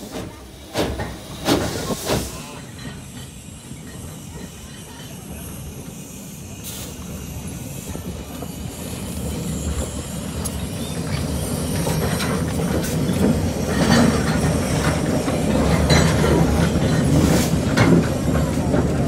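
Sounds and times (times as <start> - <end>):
steam locomotive rolling past: 0.0 - 19.0.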